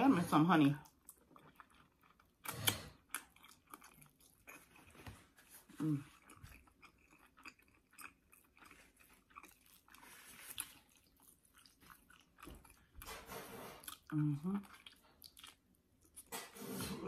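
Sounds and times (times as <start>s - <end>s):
chewing crispy chicken: 0.6s - 16.5s.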